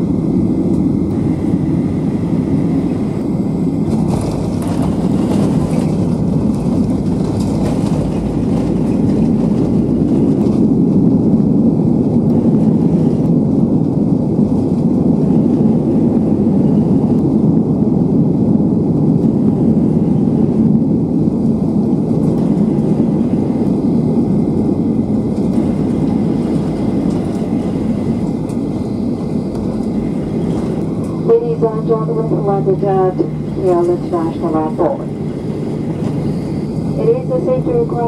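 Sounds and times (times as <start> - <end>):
jet engines and wheels rumbling: 0.0 - 38.0.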